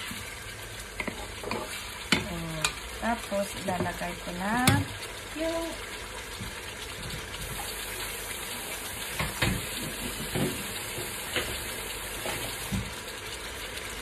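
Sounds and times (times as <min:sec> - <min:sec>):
water running from tap: 0:00.0 - 0:14.0.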